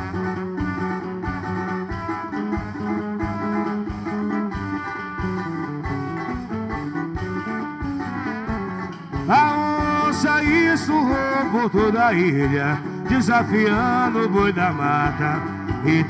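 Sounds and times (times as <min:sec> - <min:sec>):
percussion beat: 0:00.0 - 0:16.0
plucked guitar melody: 0:00.0 - 0:16.0.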